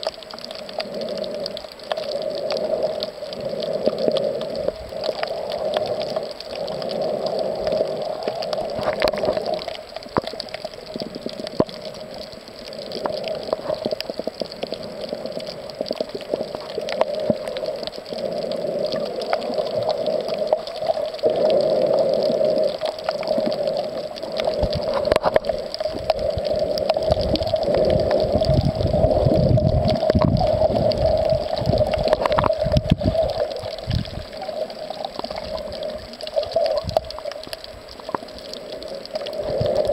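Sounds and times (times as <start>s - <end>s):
small clicks: 0.0s - 28.9s, 29.6s - 39.9s
rumbling surges of water: 0.0s - 39.9s
water sloshing and gurgling: 0.0s - 39.9s.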